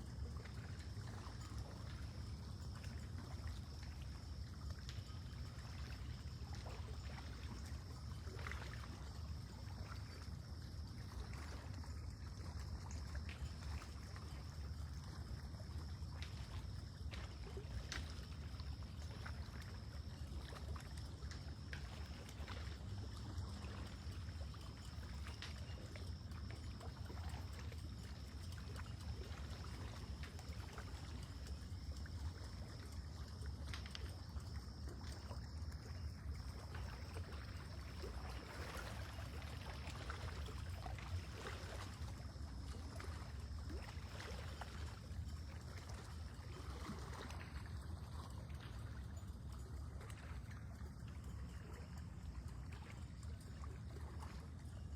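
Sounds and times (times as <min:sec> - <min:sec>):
small waves lapping: 0:00.0 - 0:54.9.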